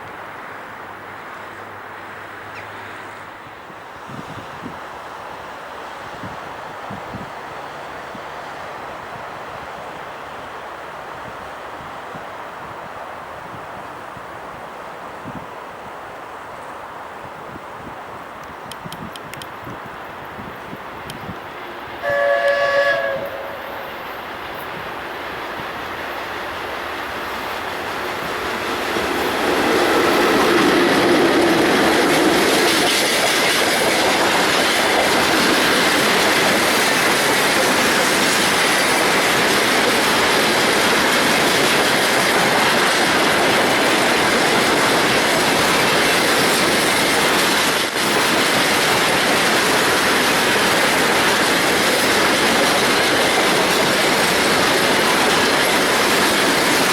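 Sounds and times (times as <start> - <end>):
train wheels rushing on rail: 0.0 - 56.9.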